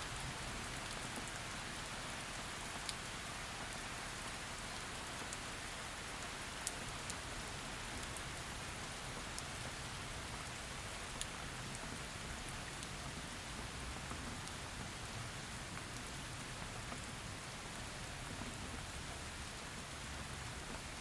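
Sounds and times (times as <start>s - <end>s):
heavy rainfall: 0.0s - 21.0s
raindrops hitting close by: 0.0s - 21.0s.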